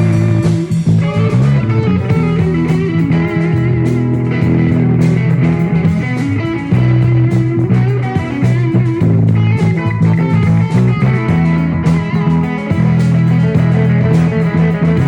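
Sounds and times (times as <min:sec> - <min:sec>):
electric guitar lines: 0:00.0 - 0:15.0
live instrumental rock band: 0:00.0 - 0:15.0.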